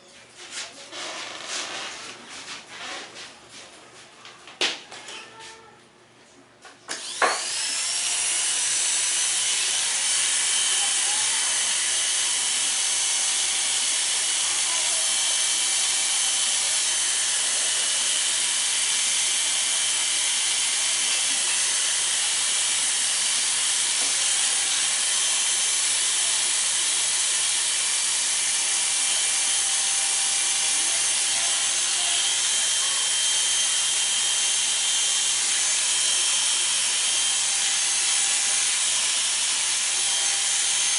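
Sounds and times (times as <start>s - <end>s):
electric hair clippers buzzing: 6.9s - 40.9s.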